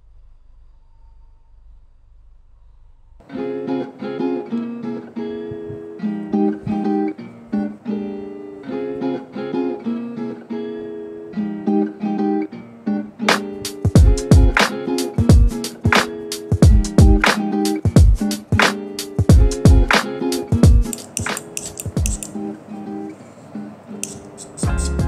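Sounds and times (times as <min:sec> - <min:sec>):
strummed acoustic guitar chords: 0:03.2 - 0:25.0.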